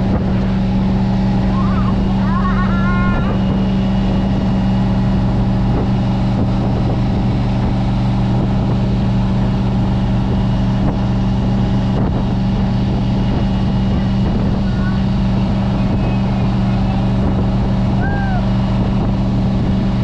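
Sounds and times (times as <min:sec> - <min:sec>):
boat engine droning: 0:00.0 - 0:20.0
hull and wake rushing: 0:00.0 - 0:20.0.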